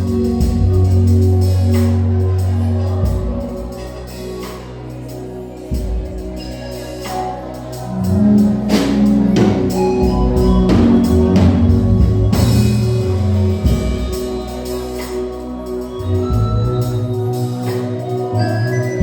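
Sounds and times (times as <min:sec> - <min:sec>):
bass and keyboard chords: 0:00.0 - 0:19.0.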